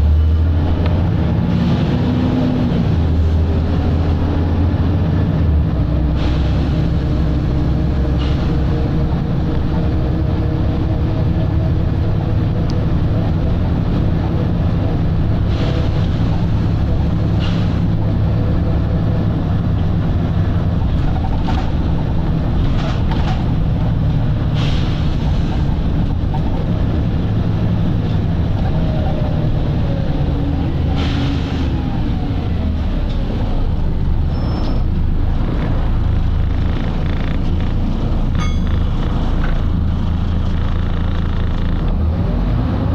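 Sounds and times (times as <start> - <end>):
bus engine droning: 0.0 - 42.9.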